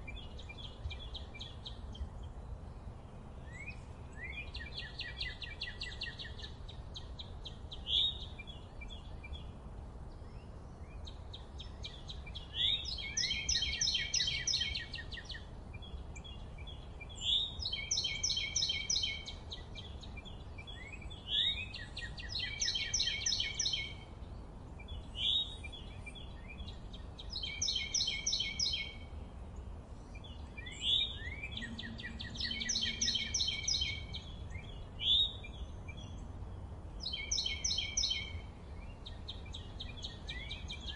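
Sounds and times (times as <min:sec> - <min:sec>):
songbird trilling: 0:03.4 - 0:09.5, 0:10.2 - 0:24.2, 0:24.8 - 0:29.1, 0:30.0 - 0:36.3, 0:37.0 - 0:40.9.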